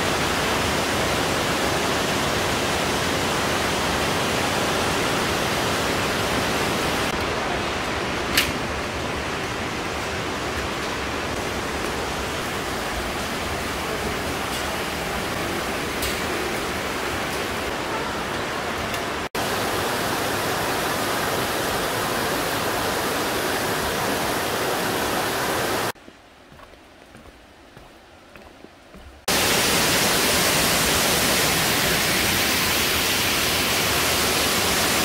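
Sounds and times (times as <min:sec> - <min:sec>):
stream rushing over rocks: 0:00.0 - 0:26.0, 0:29.2 - 0:35.0.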